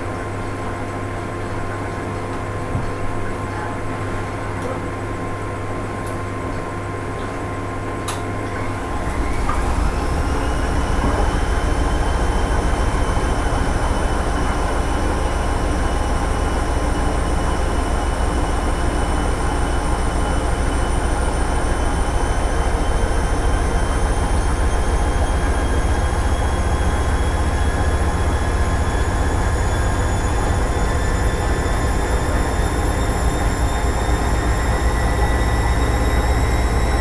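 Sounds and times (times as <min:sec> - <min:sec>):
washing machine running: 0:00.0 - 0:37.0.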